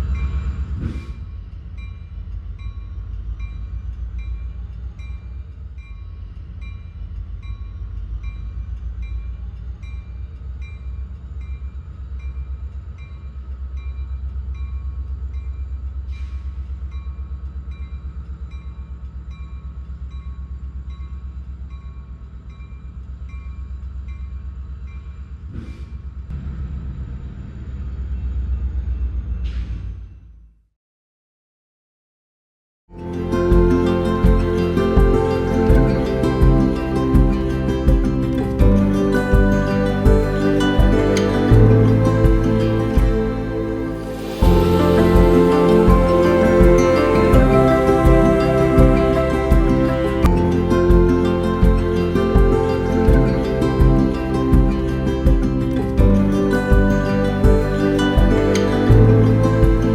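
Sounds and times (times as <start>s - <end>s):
train rumbling: 0.0s - 30.2s, 33.0s - 59.9s.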